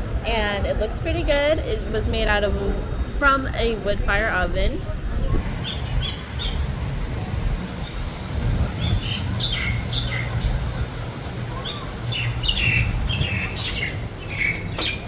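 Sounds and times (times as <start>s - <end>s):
low steady rumble: 0.0s - 14.4s.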